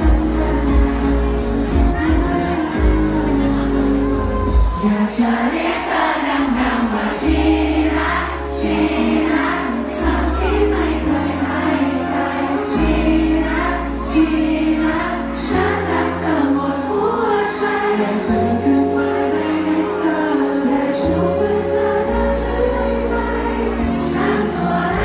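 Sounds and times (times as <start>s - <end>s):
pop backing track with bass: 0.0s - 5.5s, 7.1s - 25.0s
men singing into microphones: 0.0s - 25.0s.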